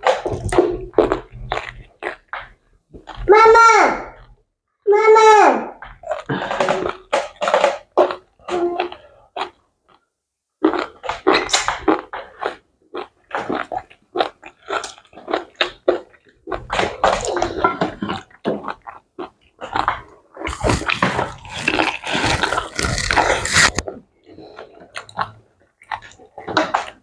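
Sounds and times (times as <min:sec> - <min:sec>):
people chewing wetly: 0:00.0 - 0:03.3, 0:05.8 - 0:10.0, 0:10.6 - 0:27.0.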